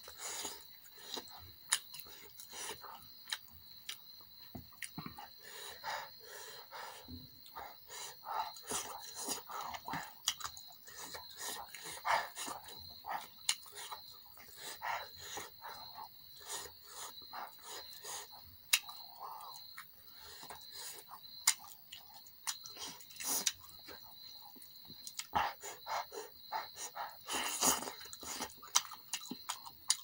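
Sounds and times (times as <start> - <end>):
wet chewing and lip-smacking: 0.0 - 30.0.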